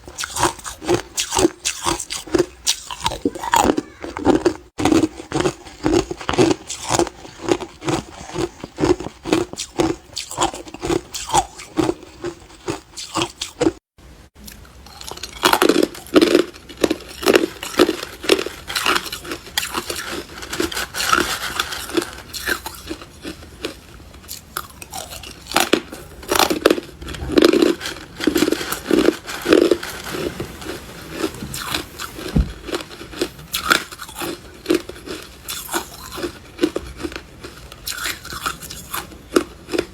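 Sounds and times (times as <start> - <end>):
ice being chewed: 0.0 - 13.8, 14.5 - 39.9.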